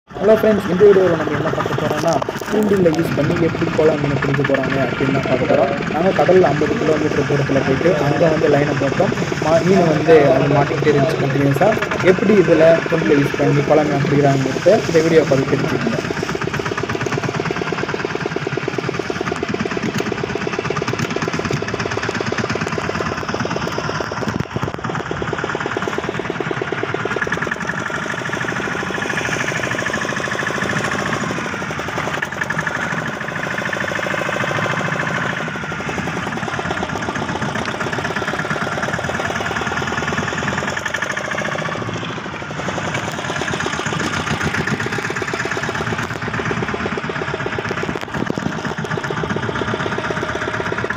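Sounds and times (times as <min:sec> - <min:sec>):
boat engine knocking: 0:00.1 - 0:50.9.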